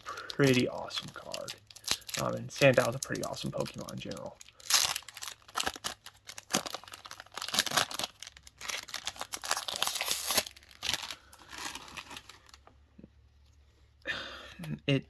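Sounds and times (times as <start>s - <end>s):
foil wrapper crinkling: 0.0s - 12.7s.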